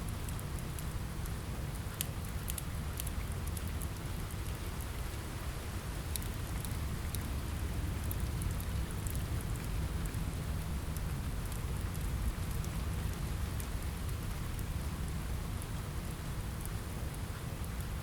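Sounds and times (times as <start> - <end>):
fire crackling: 0.0 - 18.0
low steady rumble: 0.0 - 18.0
rain on a window: 0.0 - 18.0.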